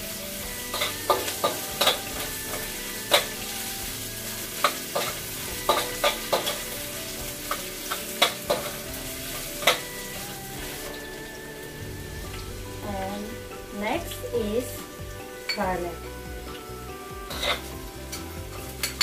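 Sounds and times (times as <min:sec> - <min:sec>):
metal spatula scraping a wok: 0:00.0 - 0:15.6, 0:17.3 - 0:18.2
ginger sizzling in hot oil: 0:00.0 - 0:19.0.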